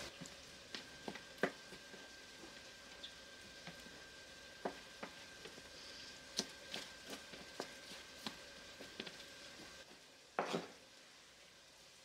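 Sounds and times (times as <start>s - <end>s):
faint hiss and hum: 0.0s - 12.0s.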